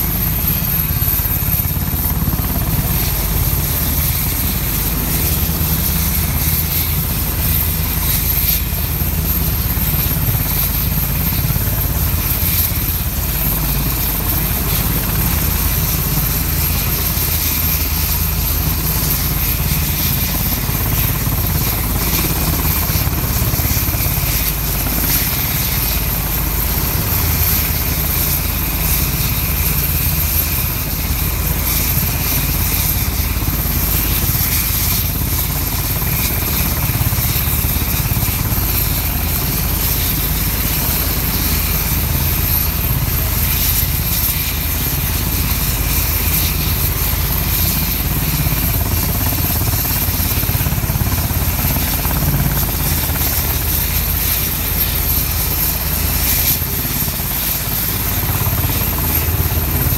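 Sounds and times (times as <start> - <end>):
helicopter engines and rotor running: 0.0 - 59.9.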